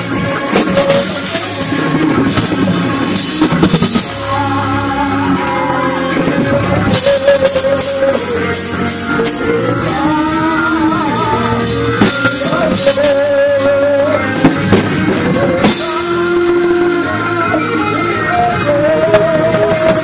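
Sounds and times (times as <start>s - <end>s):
drums: 0.0s - 20.0s
guitar: 0.0s - 20.0s
person singing: 0.0s - 20.0s.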